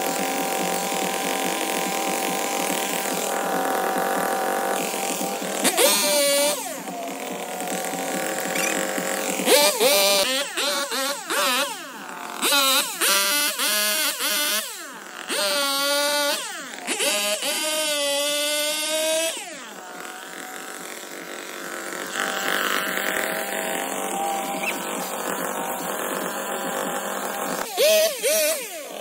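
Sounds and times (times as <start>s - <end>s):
chainsaw revving: 0.0s - 29.0s.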